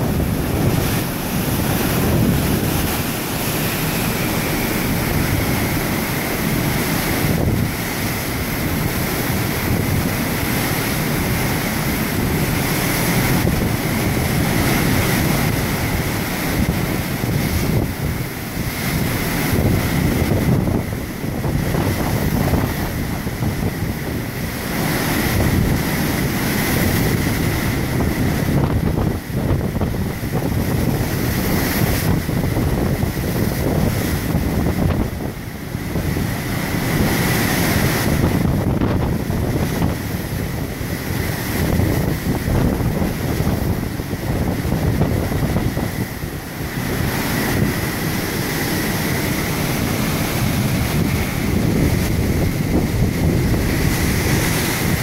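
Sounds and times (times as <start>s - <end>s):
seawater rushing along a hull: 0.0s - 55.0s
wind buffeting the microphone: 0.0s - 55.0s.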